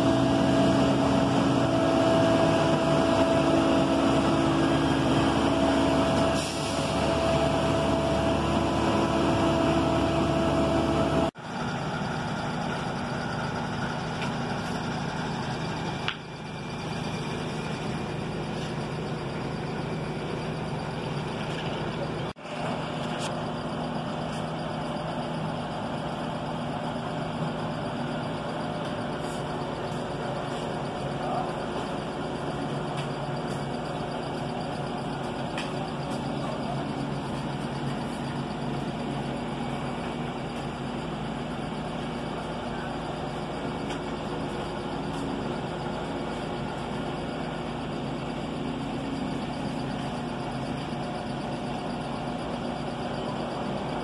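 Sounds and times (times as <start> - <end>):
vehicle engine humming: 0.0 - 54.0.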